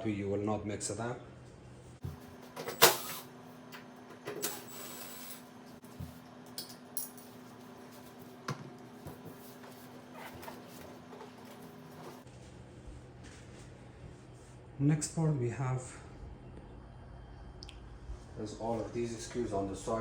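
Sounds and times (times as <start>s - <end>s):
faint steady hum: 0.6s - 20.0s.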